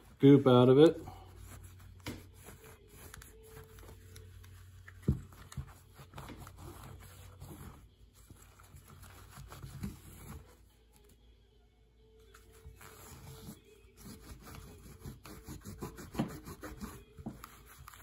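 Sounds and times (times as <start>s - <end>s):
cloth wiping a plastic lens: 0.0s - 11.1s, 12.3s - 18.0s.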